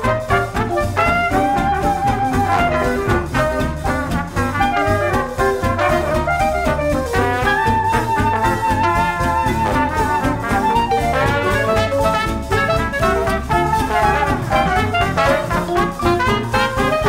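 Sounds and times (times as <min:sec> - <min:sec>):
instrumental jazz with brass: 0:00.0 - 0:17.0.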